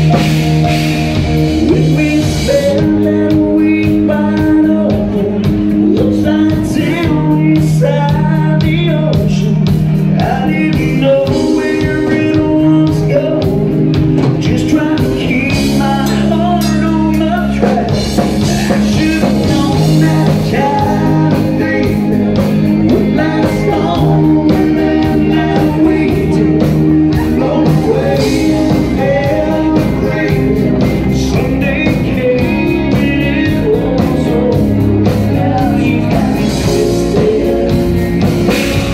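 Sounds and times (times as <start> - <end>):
country-rock band playing: 0.0 - 38.9
man singing: 0.0 - 38.9.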